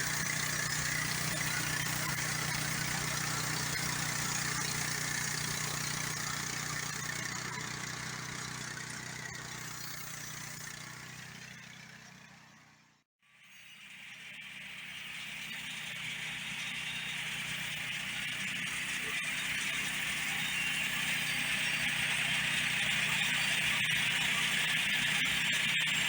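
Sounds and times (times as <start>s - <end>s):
sawmill engine running: 0.0s - 12.9s, 14.5s - 26.0s.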